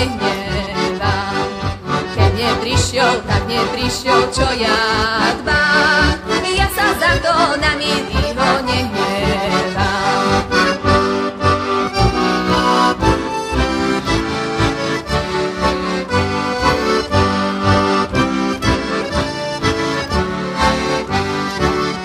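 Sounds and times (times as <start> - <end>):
button accordion folk tune: 0.0 - 22.0.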